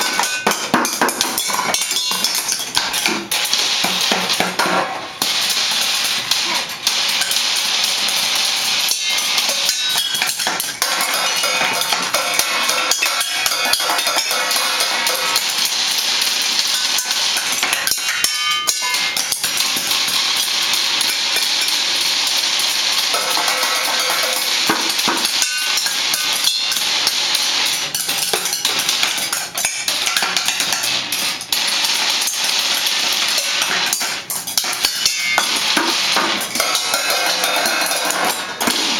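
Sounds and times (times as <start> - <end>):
children banging on drums: 0.0 - 38.9.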